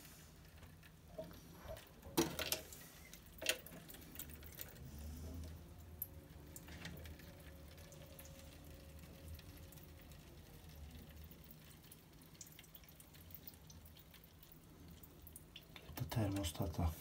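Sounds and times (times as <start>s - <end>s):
water dripping into container: 0.4s - 16.7s.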